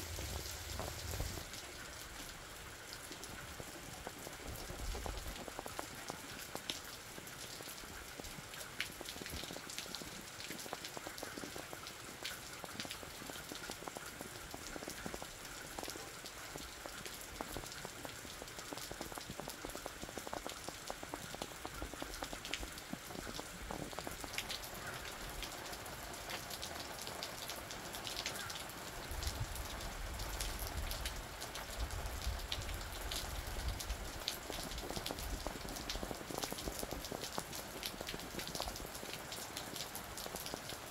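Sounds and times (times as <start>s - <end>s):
rain on a roof: 0.0s - 40.9s.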